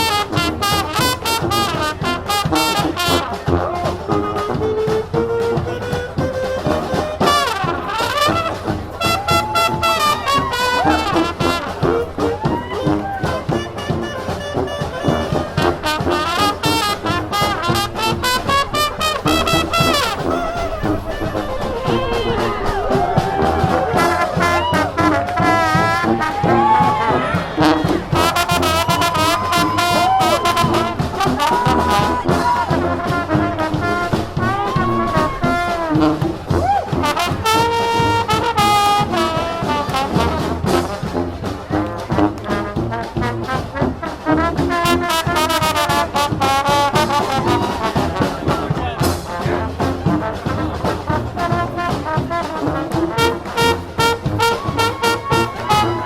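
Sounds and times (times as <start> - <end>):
steady drum beats: 0.0 - 56.0
trombones and trumpets: 0.0 - 56.0.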